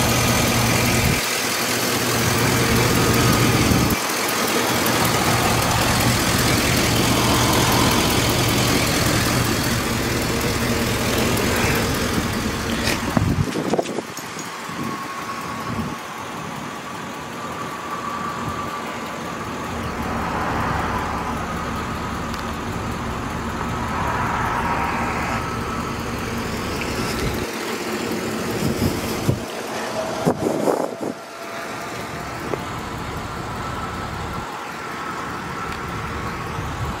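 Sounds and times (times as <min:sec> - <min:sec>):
thin steady whine: 0:00.0 - 0:37.0
truck engine idling: 0:00.0 - 0:37.0.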